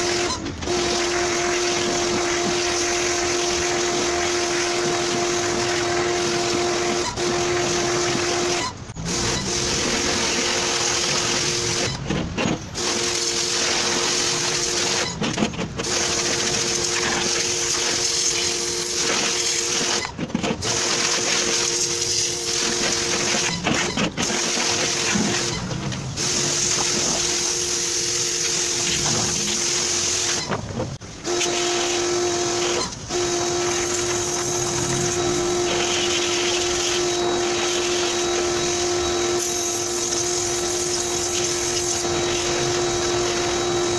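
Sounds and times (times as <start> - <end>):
pressure washer running: 0.0 - 43.9.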